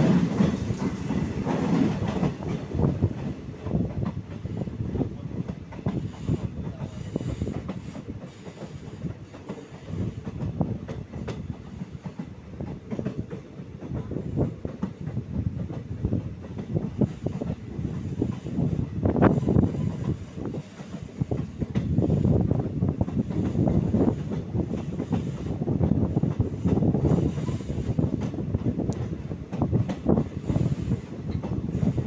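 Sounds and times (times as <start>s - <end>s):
train wheels clattering: 0.0s - 32.0s.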